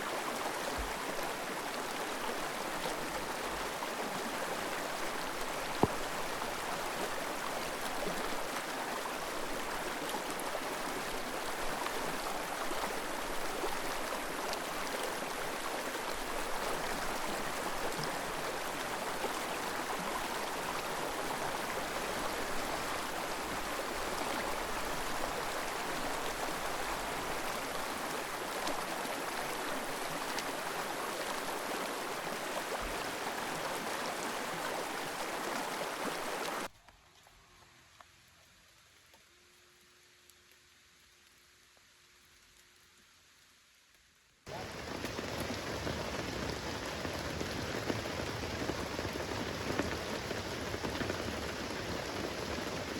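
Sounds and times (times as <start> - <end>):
flowing stream: 0.0 - 52.9.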